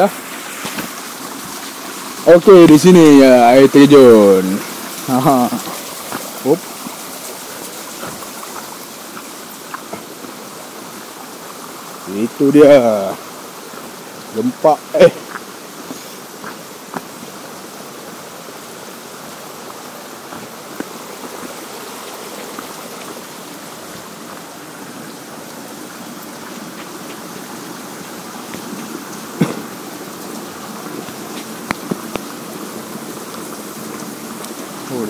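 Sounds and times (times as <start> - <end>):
stream and small waterfall rushing: 0.0 - 35.0.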